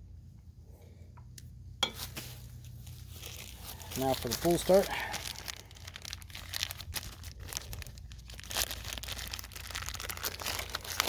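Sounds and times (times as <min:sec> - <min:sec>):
steady low hum: 0:00.0 - 0:11.0
crinkling and rustling: 0:01.9 - 0:11.0.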